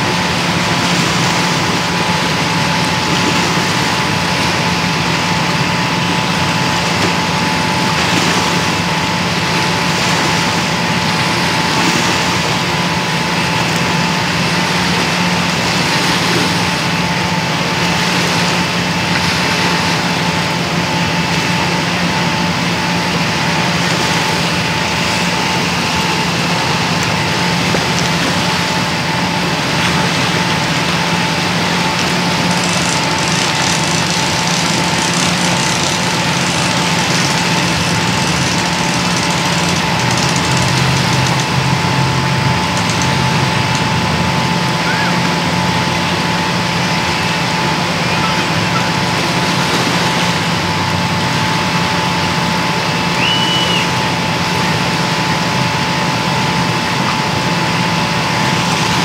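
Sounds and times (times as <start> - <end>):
boat engine idling: 0.0 - 59.0.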